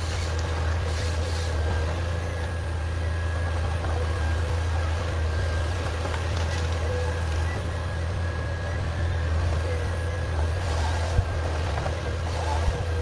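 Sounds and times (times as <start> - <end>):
diesel engine droning: 0.0 - 13.0
faint steady whine: 0.0 - 13.0.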